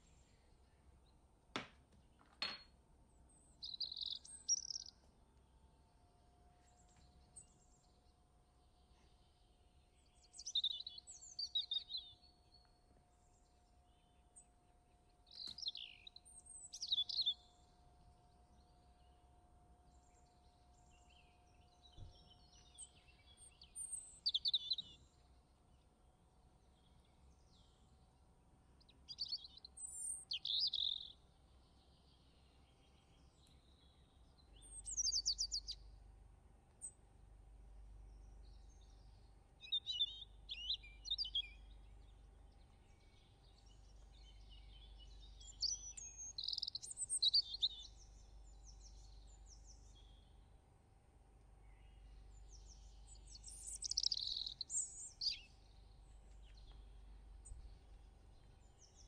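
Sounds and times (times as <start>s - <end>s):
faint steady hum: 0.0s - 59.0s
songbird chirps and trills: 0.0s - 59.0s.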